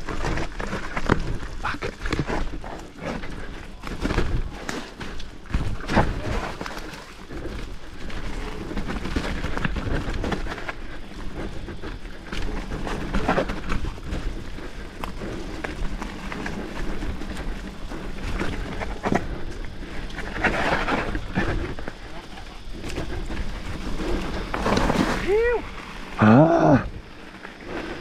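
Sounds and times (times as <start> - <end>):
bike rattling over bumps: 0.0 - 28.0
bike tyres rolling on dirt: 0.0 - 28.0.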